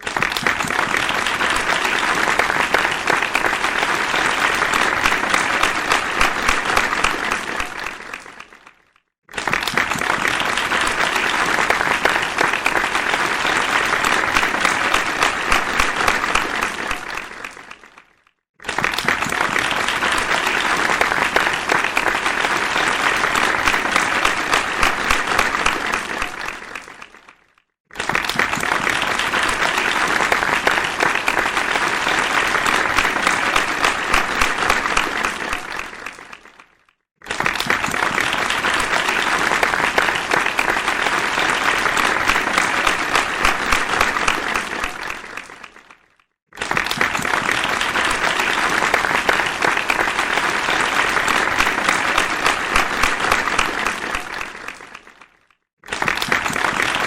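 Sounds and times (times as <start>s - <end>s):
audience applause: 0.0s - 57.0s.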